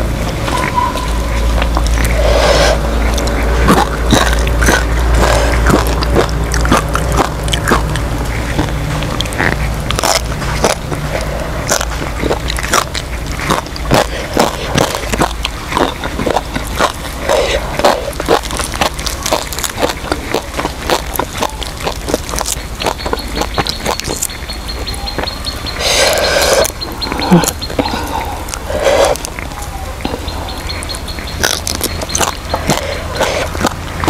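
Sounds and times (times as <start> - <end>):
chewing and crunching bones: 0.0 - 34.0
low rumble: 0.0 - 34.0.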